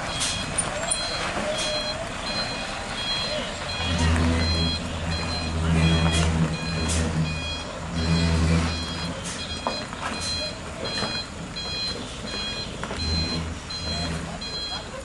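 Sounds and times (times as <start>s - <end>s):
truck diesel engine revving: 0.0s - 15.0s
back-up alarm beeping: 0.1s - 15.0s.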